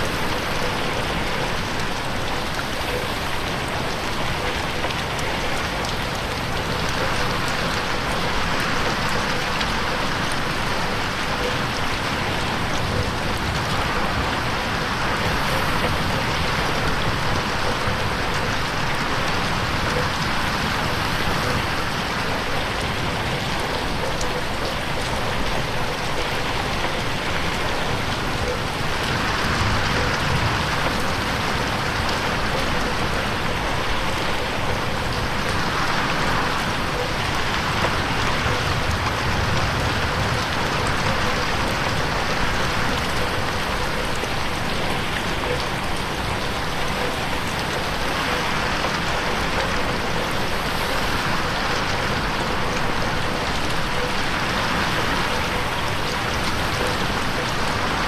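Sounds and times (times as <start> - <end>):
rain pattering on a window: 0.0 - 58.0.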